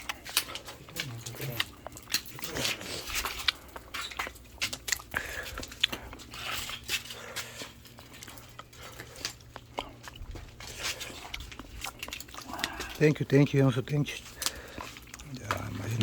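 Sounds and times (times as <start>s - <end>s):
oyster shells clicking and crunching: 0.0s - 16.0s.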